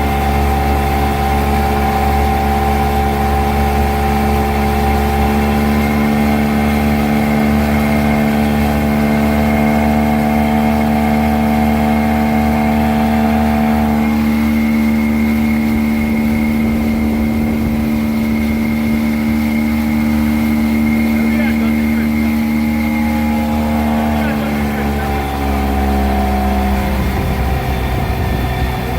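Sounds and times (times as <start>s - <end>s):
outboard motor running: 0.0s - 28.9s.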